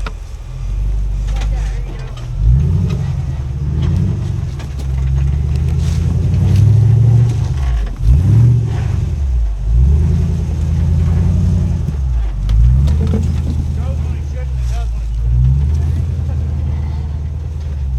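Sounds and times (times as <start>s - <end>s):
engine revving: 0.0s - 17.9s.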